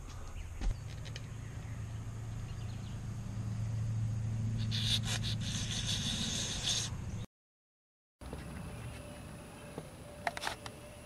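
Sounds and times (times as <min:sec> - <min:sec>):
low mechanical hum: 0:00.0 - 0:07.3, 0:08.2 - 0:11.0.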